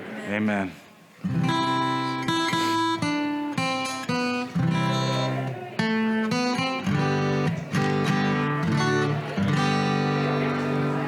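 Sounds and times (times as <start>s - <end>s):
acoustic guitar strumming: 1.2s - 11.0s.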